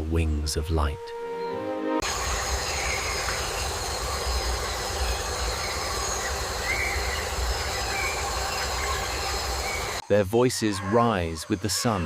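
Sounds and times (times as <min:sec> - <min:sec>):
dense high forest drone: 0:02.0 - 0:12.0.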